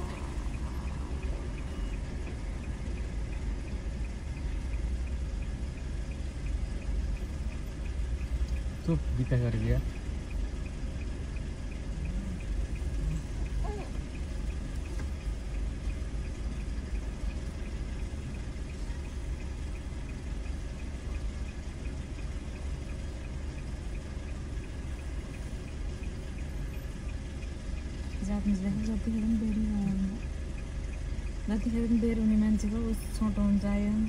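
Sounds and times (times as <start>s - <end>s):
faint regular ticking: 0.0s - 34.0s
low hum inside car cabin: 0.0s - 34.0s.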